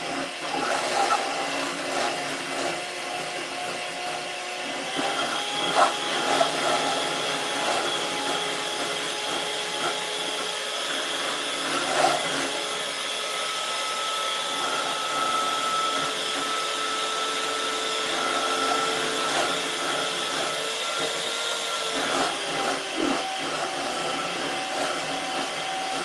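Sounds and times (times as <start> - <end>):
electric hand mixer whining: 0.0 - 26.0.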